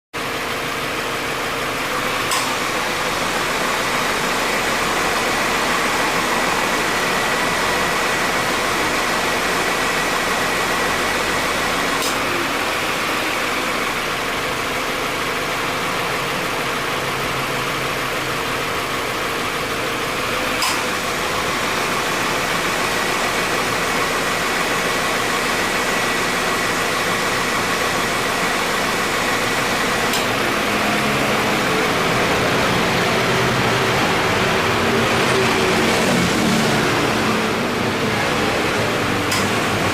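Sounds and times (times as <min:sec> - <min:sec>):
car engine idling: 0:00.2 - 0:39.9.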